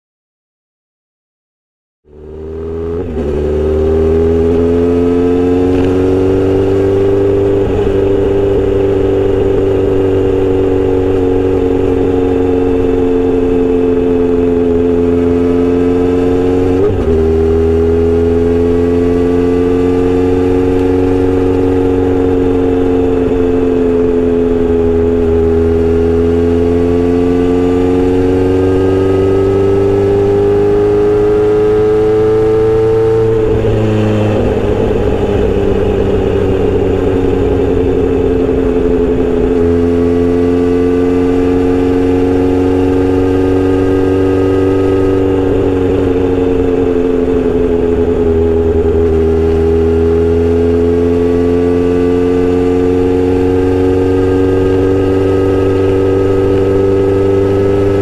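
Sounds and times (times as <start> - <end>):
motorcycle engine cruising: 2.0 - 58.0.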